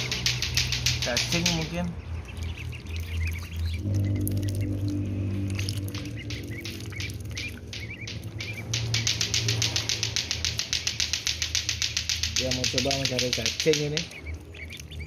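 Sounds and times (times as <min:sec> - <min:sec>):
bills clicking and slurping in water: 0:00.0 - 0:15.0
ducklings peeping: 0:00.0 - 0:15.0
low steady hum: 0:00.0 - 0:15.0.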